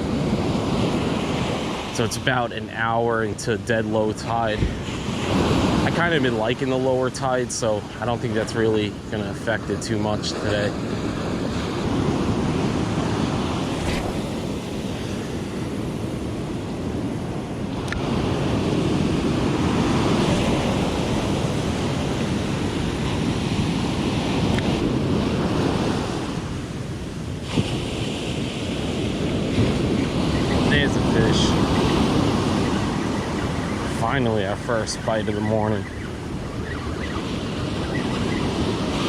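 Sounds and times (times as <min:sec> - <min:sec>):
ocean surf breaking: 0:00.0 - 0:39.0
wind buffeting microphone: 0:00.0 - 0:39.0.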